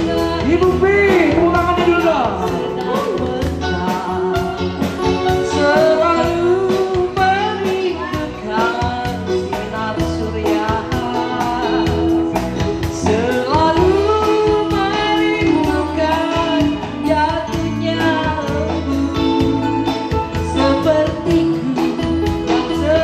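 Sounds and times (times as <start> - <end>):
woman singing into microphone: 0.0 - 1.5, 2.1 - 23.0
music with steady beat: 0.0 - 23.0.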